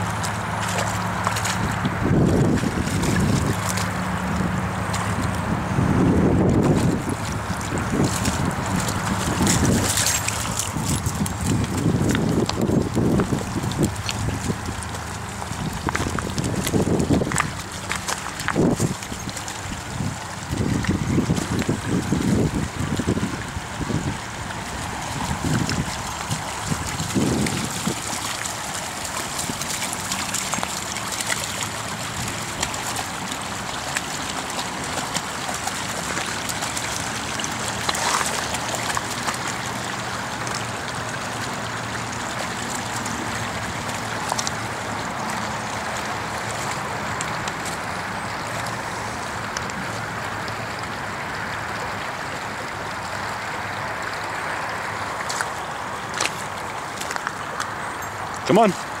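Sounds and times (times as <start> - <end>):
dog splashing in water: 0.0 - 52.0, 53.1 - 59.0
creek running over stones: 0.0 - 59.0.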